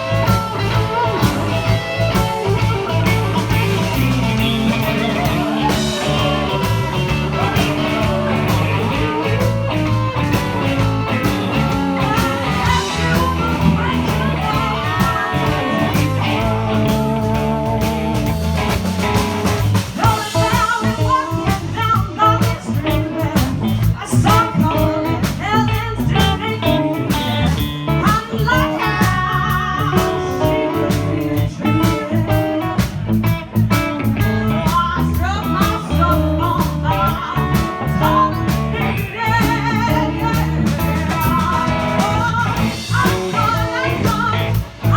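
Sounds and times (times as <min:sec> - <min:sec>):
person singing: 0:00.0 - 0:18.8, 0:20.0 - 0:32.9, 0:34.1 - 0:44.9
blues band playing: 0:00.0 - 0:44.9
guitar playing: 0:00.0 - 0:44.9.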